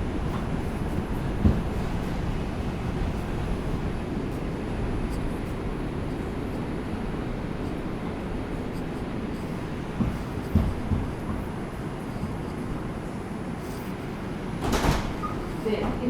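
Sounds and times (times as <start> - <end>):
subway car low rumble: 0.0 - 16.0.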